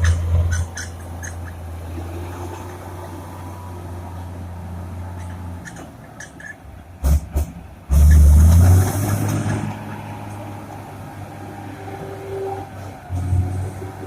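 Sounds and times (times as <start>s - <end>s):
bulldozer diesel engine: 0.0s - 14.0s.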